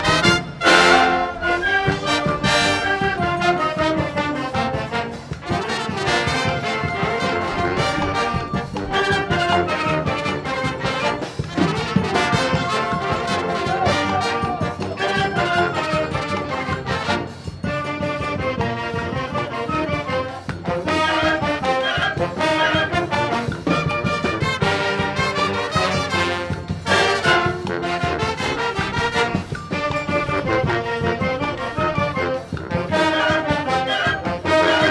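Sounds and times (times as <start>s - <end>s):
brass band playing: 0.0s - 34.9s.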